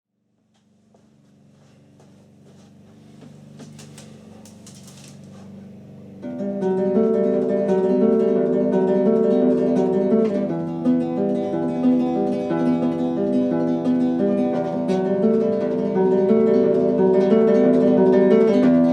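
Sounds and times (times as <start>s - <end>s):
acoustic guitar music: 1.2s - 18.9s.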